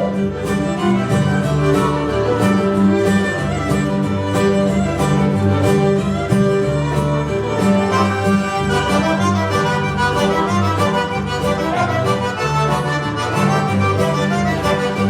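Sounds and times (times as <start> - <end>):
accordion: 0.0 - 15.0
bass line: 0.0 - 15.0
fiddle: 0.0 - 15.0
strummed guitar: 0.0 - 15.0.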